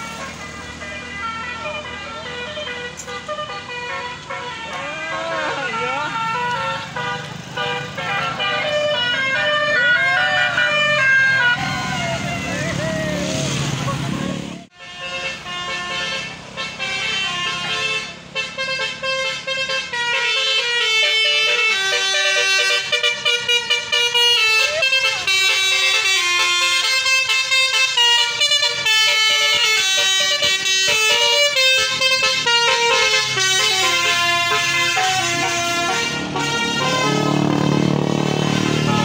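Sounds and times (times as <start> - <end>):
musical air horn melody: 0.0 - 12.9, 14.7 - 39.0.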